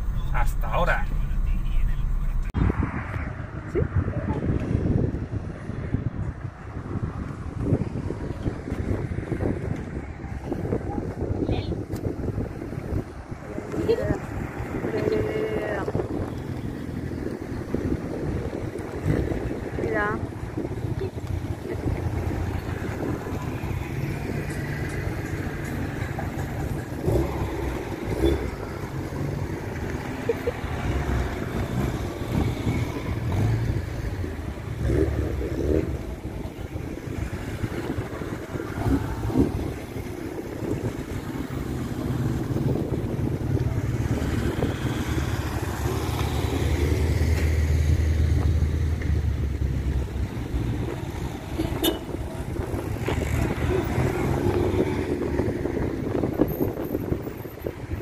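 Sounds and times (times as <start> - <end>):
small cars driving slowly past: 0.0 - 58.0.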